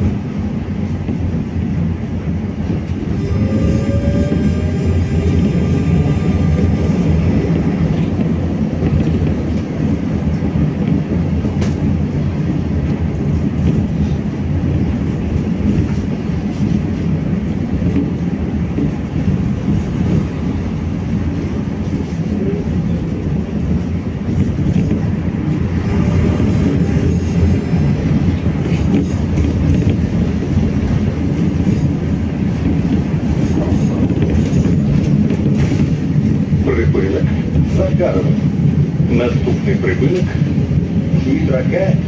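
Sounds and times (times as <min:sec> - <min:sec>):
tram wheels rumbling on rails: 0:00.0 - 0:42.0.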